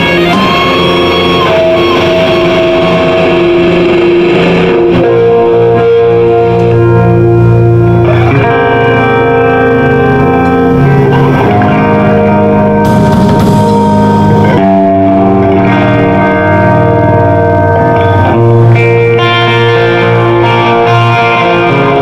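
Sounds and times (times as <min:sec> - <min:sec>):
electric guitar ringing chords: 0:00.0 - 0:22.0.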